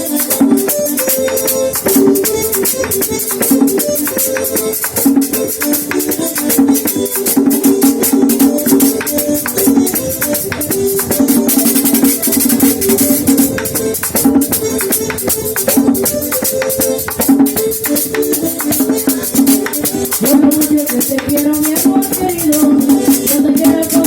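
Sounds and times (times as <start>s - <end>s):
drums: 0.0s - 24.0s
rattling percussion: 0.0s - 24.0s
sustained melody line: 0.0s - 24.0s.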